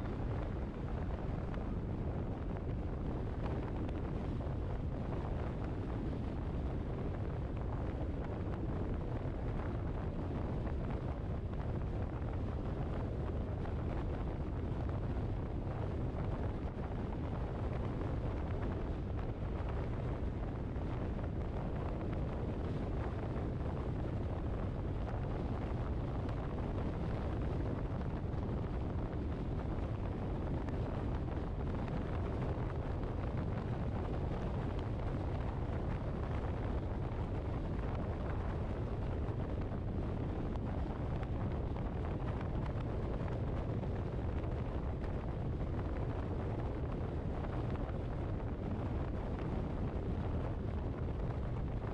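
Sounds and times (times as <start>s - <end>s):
wind buffeting the microphone: 0.0s - 51.9s.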